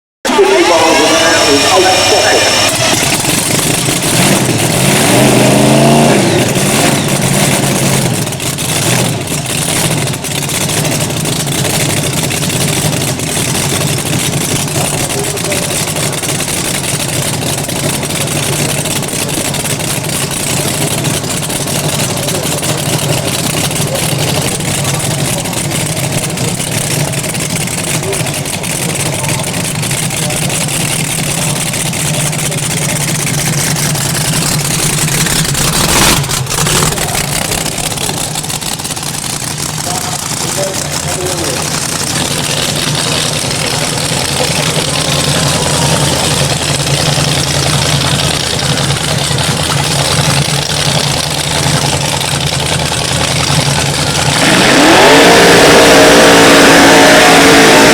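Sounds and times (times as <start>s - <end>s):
racing car engine revving: 0.2s - 57.9s.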